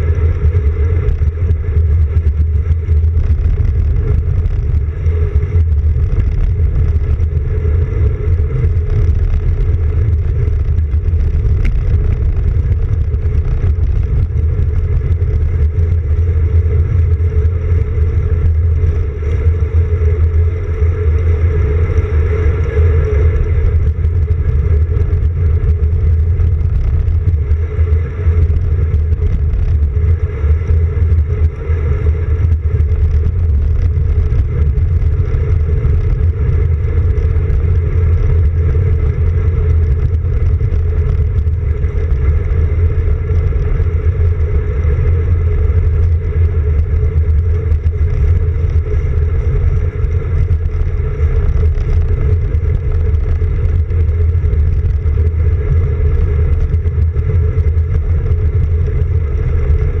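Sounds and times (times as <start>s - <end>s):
road vibration rumble: 0.0s - 60.0s.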